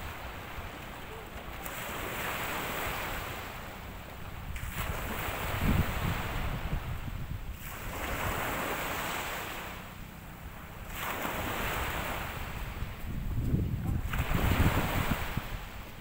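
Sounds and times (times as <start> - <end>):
wind buffeting microphone: 0.0 - 8.5, 10.8 - 16.0
waves washing on shore: 0.0 - 16.0.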